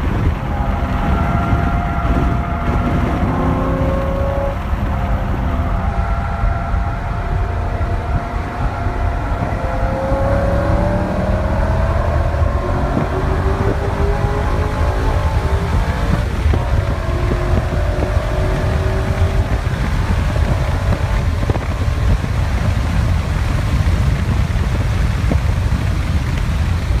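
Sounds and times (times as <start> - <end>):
car engine at speed: 0.0 - 27.0
road and wind noise: 0.0 - 27.0.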